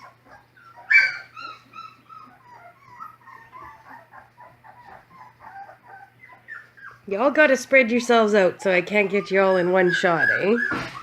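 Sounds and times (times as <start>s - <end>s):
puppies whimpering and squeaking: 0.0s - 11.0s.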